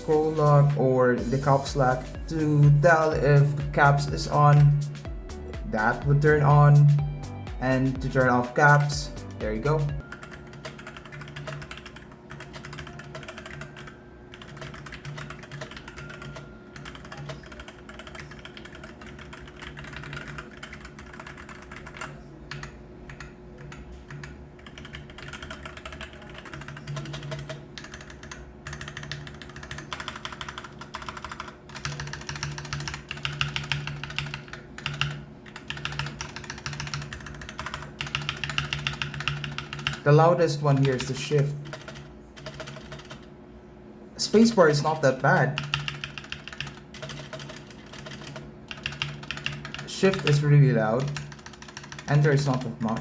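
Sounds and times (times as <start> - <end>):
mechanical keyboard typing: 8.6 - 40.0, 40.7 - 43.3, 44.3 - 53.0.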